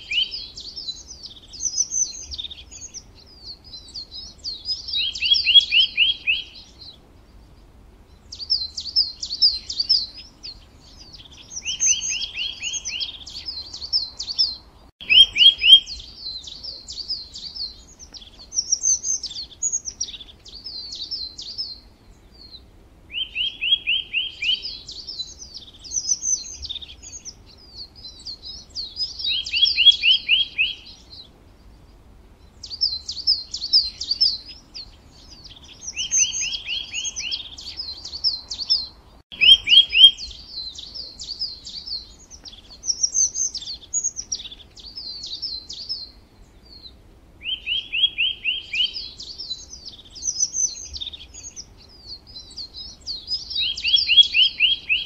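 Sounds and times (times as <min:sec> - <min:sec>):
songbird chirping and twittering: 0:00.0 - 0:55.0.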